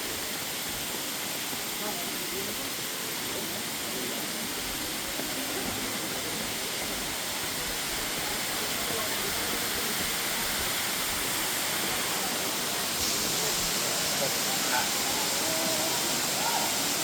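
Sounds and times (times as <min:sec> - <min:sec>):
waterfall rushing: 0:02.8 - 0:17.0.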